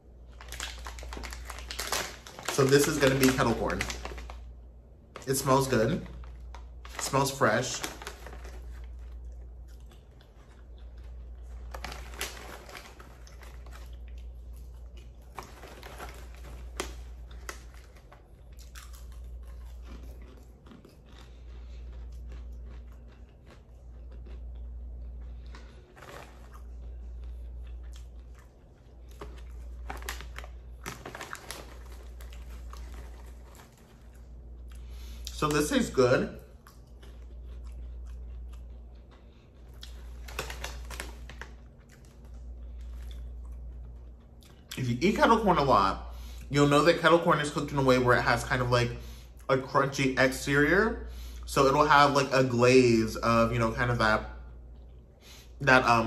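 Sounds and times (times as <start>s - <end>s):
person chewing popcorn: 0.0s - 45.4s.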